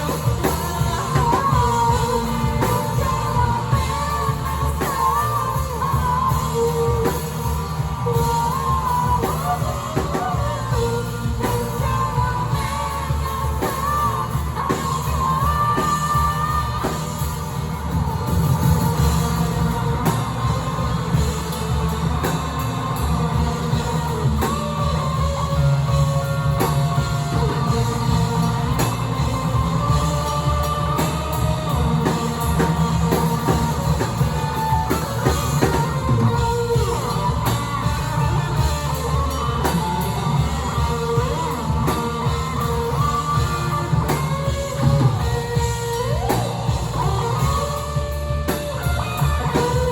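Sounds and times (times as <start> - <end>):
person singing: 0.0 - 49.9
rock band playing live: 0.0 - 49.9.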